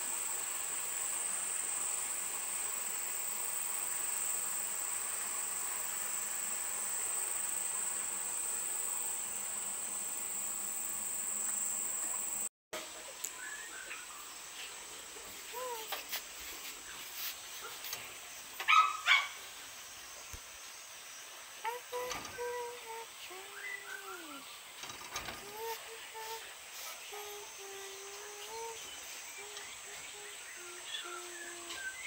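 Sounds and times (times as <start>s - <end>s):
high-pitched insect chorus: 0.0s - 12.5s, 13.5s - 32.0s
short insect chirps: 0.0s - 12.5s, 18.2s - 32.0s.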